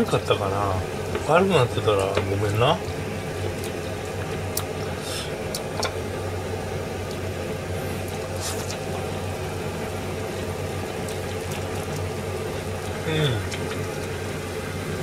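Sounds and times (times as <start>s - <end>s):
low hum of stove: 0.0s - 15.0s.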